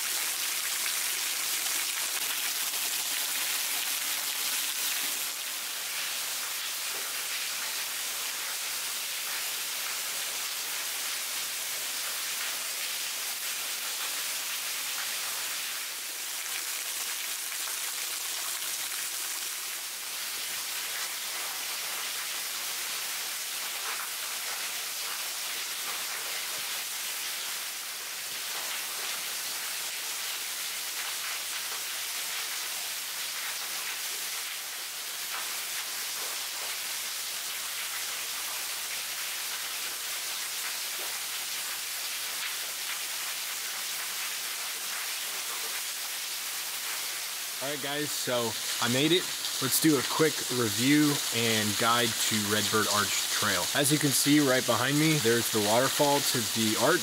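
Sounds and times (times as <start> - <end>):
waterfall splashing: 0.0 - 26.5, 37.5 - 57.0
rain falling: 0.0 - 57.0.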